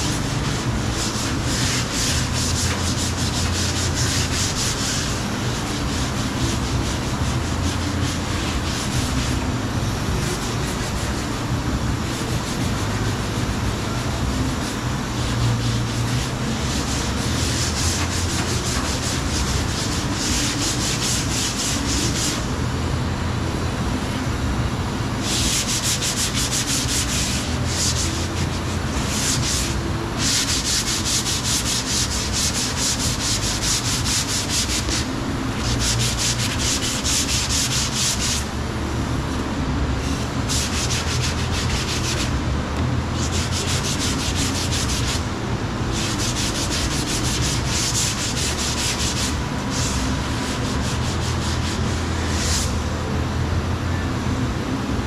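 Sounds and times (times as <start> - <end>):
sanding scraping hiss: 0.0 - 22.5, 25.2 - 38.6, 39.3 - 42.5, 43.2 - 45.3, 46.0 - 52.8
low steady hum: 0.0 - 55.0.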